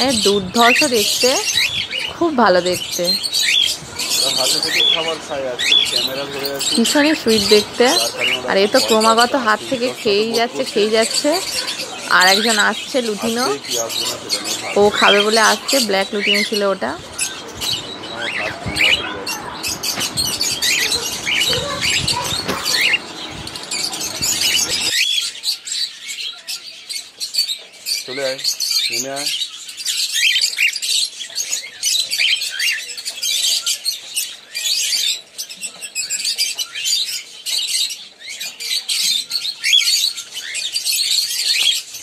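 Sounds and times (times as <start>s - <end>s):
birds chirping and chattering: 0.0s - 42.0s.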